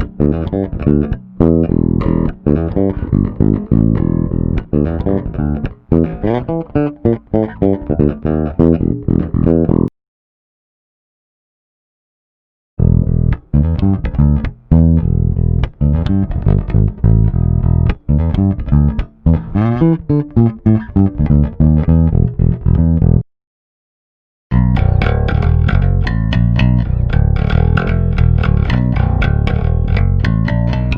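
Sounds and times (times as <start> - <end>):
electric bass plucked notes: 0.0 - 9.9, 12.8 - 23.2, 24.5 - 30.9.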